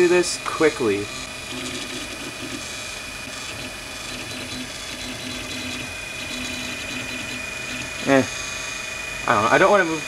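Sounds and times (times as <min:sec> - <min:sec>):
stepper motor tone: 0:00.0 - 0:10.0.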